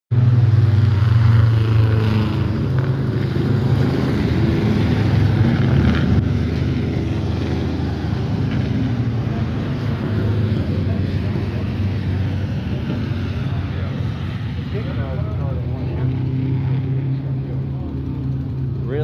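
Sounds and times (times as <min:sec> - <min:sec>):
race car engine running: 0:00.1 - 0:19.0.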